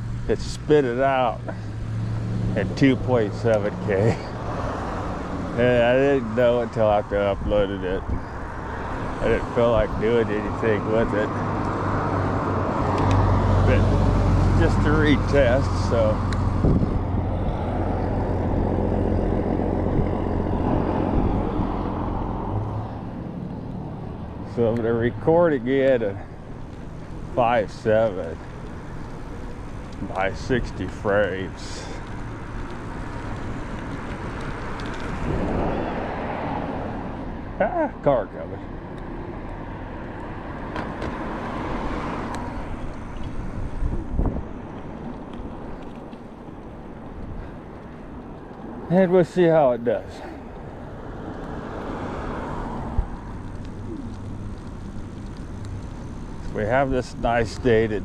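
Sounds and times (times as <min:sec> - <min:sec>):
car passing by: 0:00.0 - 0:37.6, 0:39.3 - 0:46.2, 0:47.1 - 0:58.0
road noise: 0:00.0 - 0:58.0
vehicle engine: 0:00.0 - 0:58.0.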